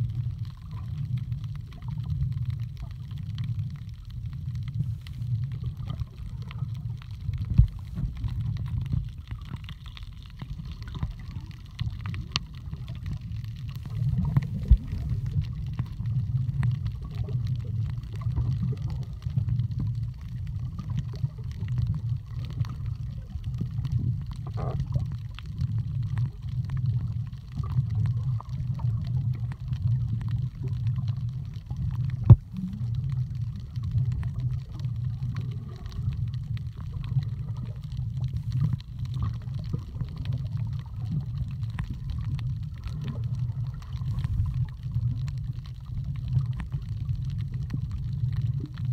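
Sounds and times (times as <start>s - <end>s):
faint crackling: 0.0s - 48.9s
underwater rumble of moving water: 0.0s - 48.9s.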